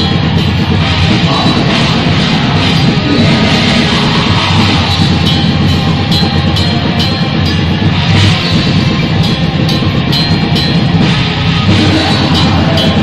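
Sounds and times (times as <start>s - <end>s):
cymbal hits: 0.0s - 13.0s
metal band playing live: 0.0s - 13.0s.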